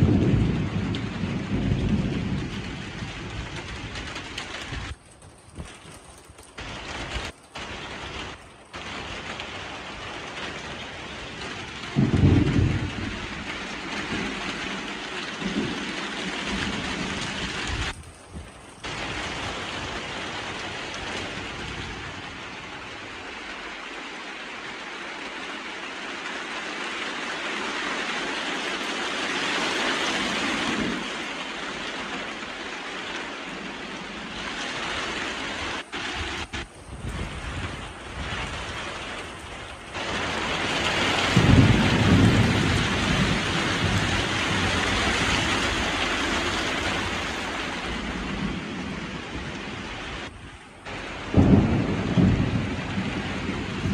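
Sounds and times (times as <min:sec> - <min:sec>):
thunder clap and rumble: 0:00.0 - 0:23.9, 0:28.8 - 0:53.9
heavy rain falling: 0:00.0 - 0:53.9.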